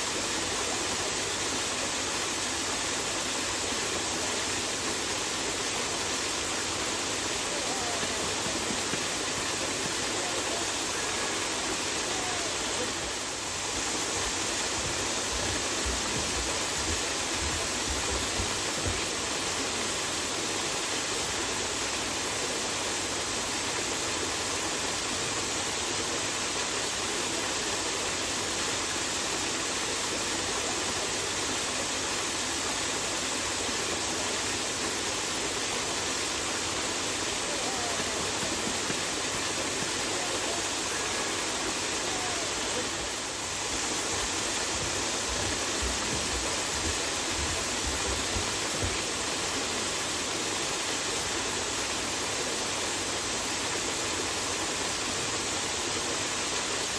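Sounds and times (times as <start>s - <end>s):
waterfall rushing onto rocks: 0.0s - 56.9s.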